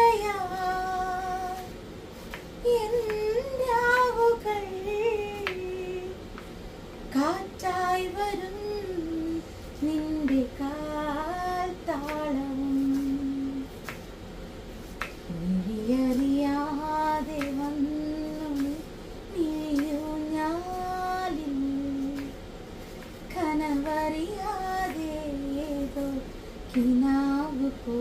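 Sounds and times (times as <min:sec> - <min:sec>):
woman singing unaccompanied: 0:00.0 - 0:01.8, 0:02.6 - 0:06.4, 0:07.1 - 0:13.8, 0:15.2 - 0:22.4, 0:23.2 - 0:28.0.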